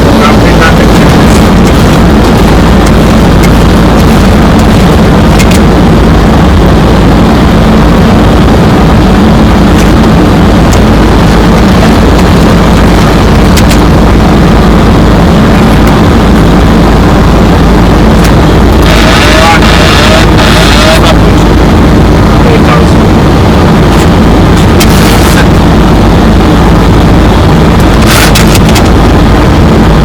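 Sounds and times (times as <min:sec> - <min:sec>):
low engine hum: 0:00.0 - 0:30.0
rushing airflow over cockpit: 0:00.0 - 0:30.0.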